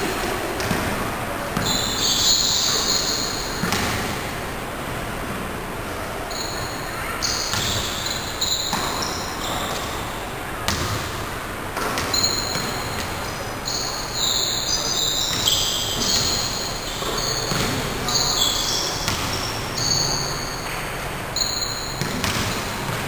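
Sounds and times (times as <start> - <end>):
basketball bouncing on court: 0.0 - 5.0, 6.3 - 23.0
players' voices: 0.0 - 21.4.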